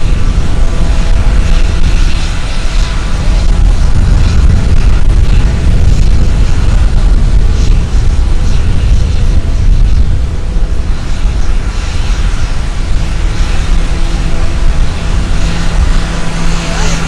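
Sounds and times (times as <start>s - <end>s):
turboprop aircraft engine rumble: 0.0s - 17.0s.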